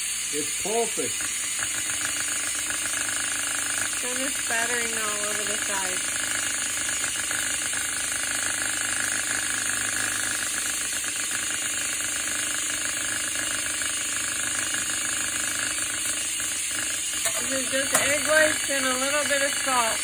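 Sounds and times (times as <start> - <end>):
cordless drill running: 0.0 - 20.0.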